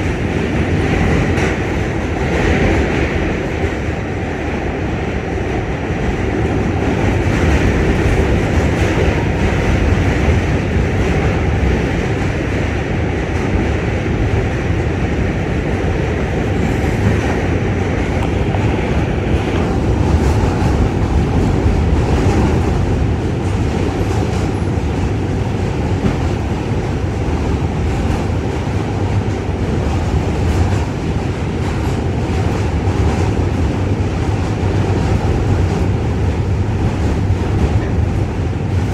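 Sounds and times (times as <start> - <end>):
subway wheels rumbling on rails: 0.0 - 38.9.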